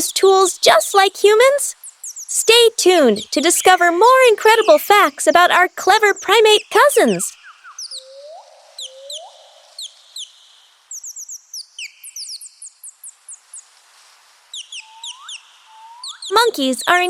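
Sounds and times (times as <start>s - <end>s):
birds chirping: 0.0s - 13.7s, 14.5s - 17.0s.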